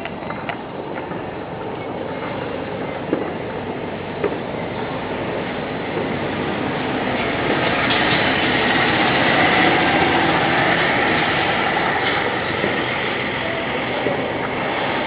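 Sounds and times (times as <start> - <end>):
distant fireworks barrage: 1.0 - 15.0.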